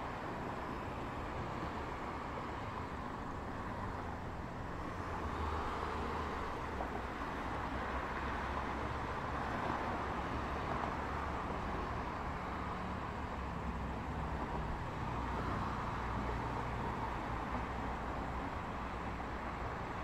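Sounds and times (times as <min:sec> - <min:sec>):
passing cars tyre and engine noise: 0:00.0 - 0:20.0.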